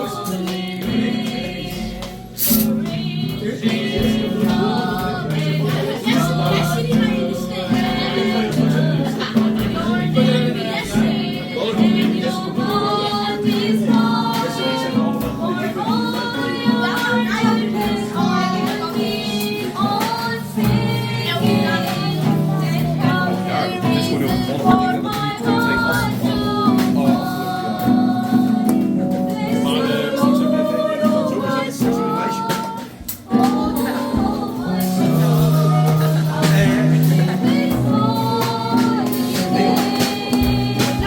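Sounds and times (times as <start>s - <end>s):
gospel worship music: 0.0s - 41.0s
steady percussive beat: 0.0s - 41.0s
voices singing: 0.0s - 41.0s
held bass notes: 0.8s - 41.0s.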